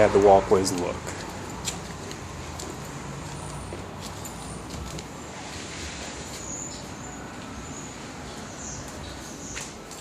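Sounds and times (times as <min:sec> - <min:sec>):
distant traffic hum: 0:00.0 - 0:10.0.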